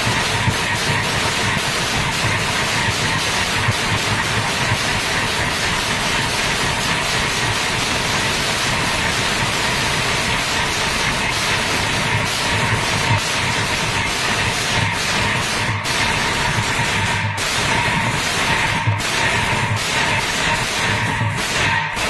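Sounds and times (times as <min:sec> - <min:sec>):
brass hand cymbals clashing: 0:00.0 - 0:22.0
drums beating: 0:00.0 - 0:22.0.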